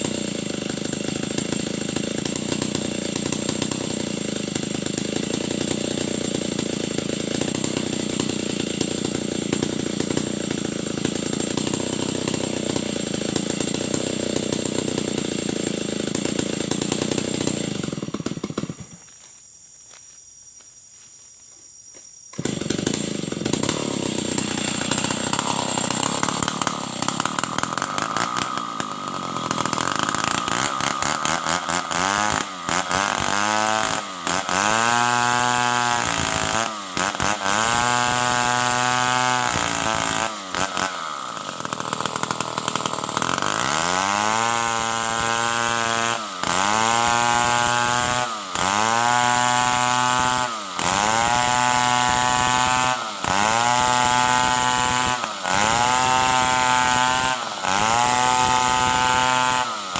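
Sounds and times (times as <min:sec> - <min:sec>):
chainsaw cutting timber: 0:00.0 - 0:19.4, 0:22.3 - 0:59.9.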